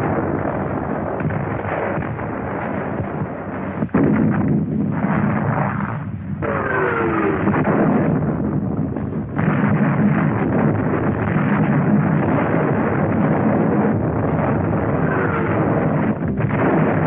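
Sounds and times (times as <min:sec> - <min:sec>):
artillery and gunfire: 0:00.0 - 0:17.0.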